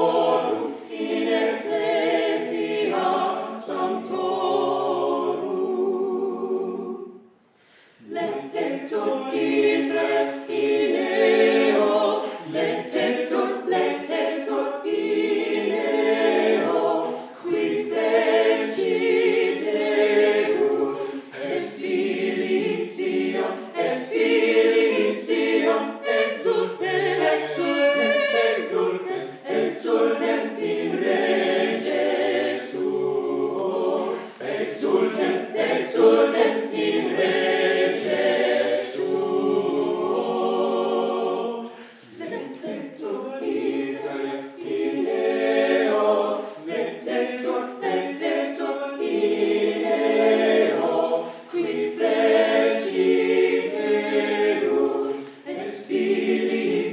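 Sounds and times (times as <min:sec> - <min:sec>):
mixed choir singing a cappella: 0:00.0 - 0:56.9.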